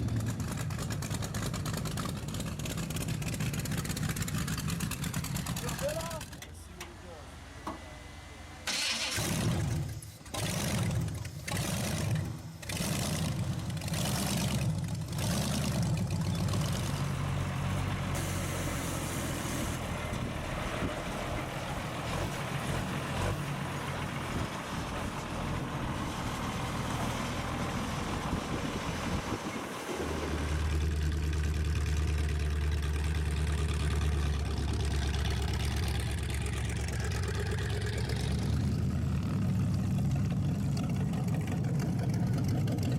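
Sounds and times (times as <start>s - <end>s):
engine idling with deep drone: 0.0s - 22.3s, 30.4s - 42.9s
engine revving: 8.0s - 42.9s.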